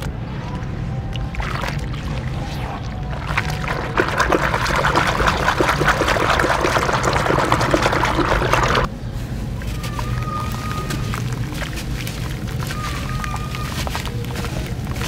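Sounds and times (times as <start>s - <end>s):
low steady hum: 0.0s - 15.0s
hands squelching wet sand: 1.1s - 15.0s.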